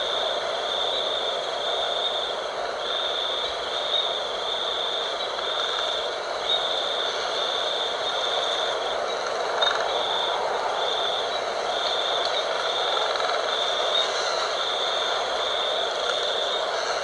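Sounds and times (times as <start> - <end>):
wind blowing: 0.0 - 17.0.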